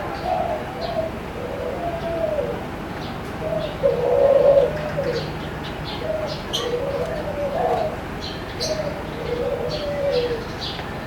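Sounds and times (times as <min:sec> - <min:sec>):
dove cooing: 0:00.0 - 0:02.6, 0:03.4 - 0:10.8.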